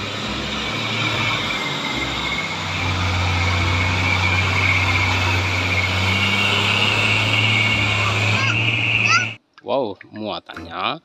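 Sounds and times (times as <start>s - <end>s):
truck diesel engine driving past: 0.0s - 9.4s.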